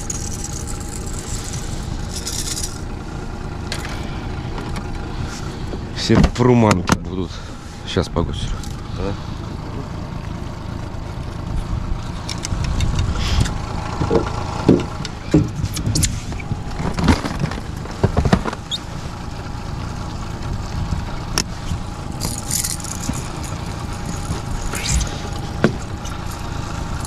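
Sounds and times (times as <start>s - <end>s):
outboard motor rumble: 0.0s - 27.0s.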